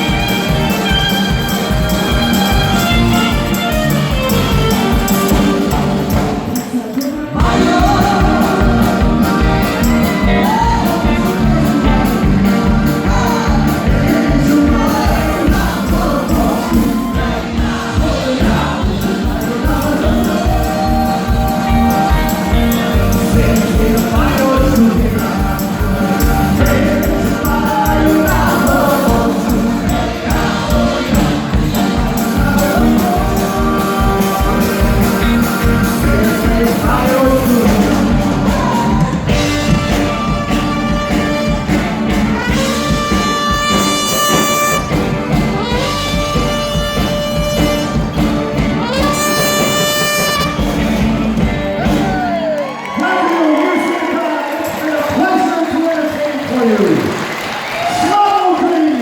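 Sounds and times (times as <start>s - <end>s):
fast steady beat: 0.0s - 52.2s
live music with singing: 0.0s - 59.0s.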